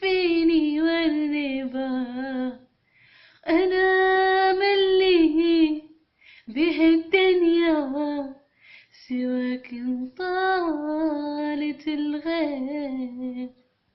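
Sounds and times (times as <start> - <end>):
woman singing unaccompanied: 0.0 - 2.7, 3.4 - 8.4, 9.0 - 13.6.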